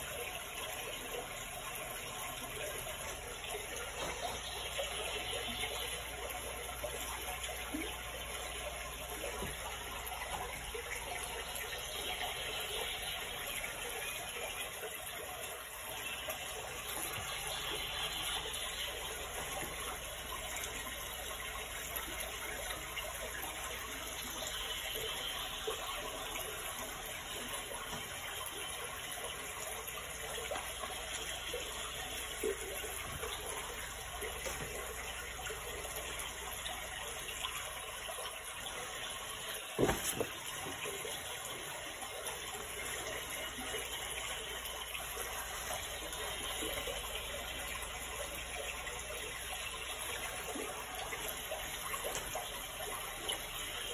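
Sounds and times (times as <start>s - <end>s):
running water: 0.0s - 53.9s.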